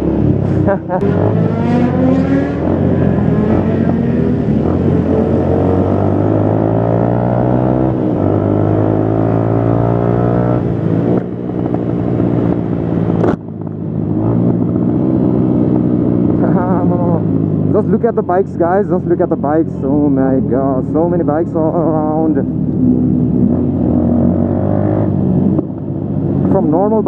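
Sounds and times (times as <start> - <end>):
motorcycle engine running: 2.6 - 27.0.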